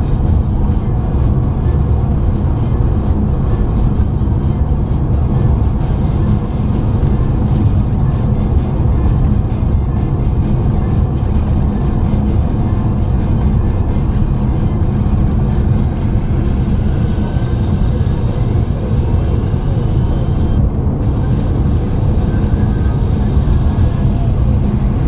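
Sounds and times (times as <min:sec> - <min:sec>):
car road and engine noise: 0:00.0 - 0:25.0
music playing: 0:00.0 - 0:25.0.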